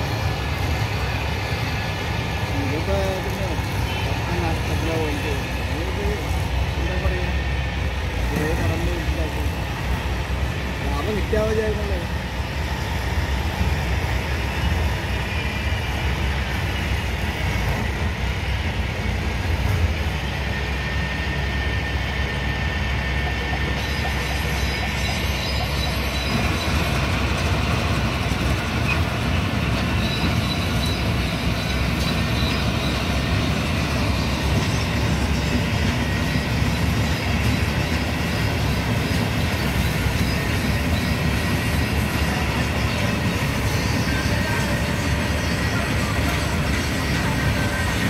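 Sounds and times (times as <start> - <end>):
loud machine noise: 0.0 - 48.0.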